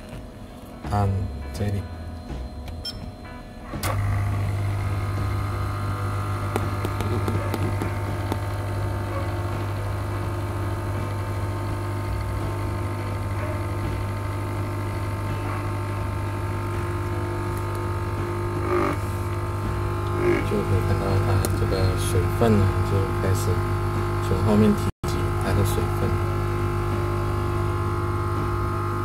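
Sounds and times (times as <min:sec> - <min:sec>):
coffee machine pump humming: 0:03.7 - 0:29.0.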